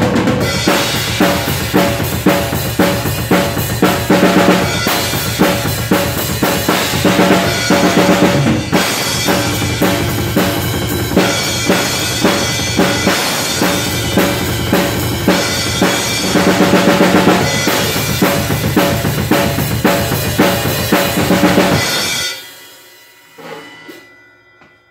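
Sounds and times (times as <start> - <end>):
drum kit played fast: 0.0 - 24.1.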